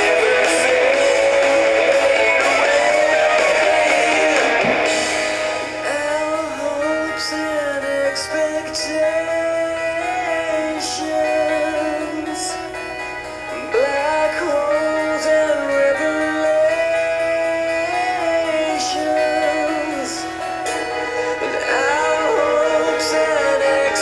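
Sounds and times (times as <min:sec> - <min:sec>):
person singing long gliding notes: 0:00.0 - 0:12.6, 0:13.5 - 0:24.0
guitar: 0:00.0 - 0:24.0.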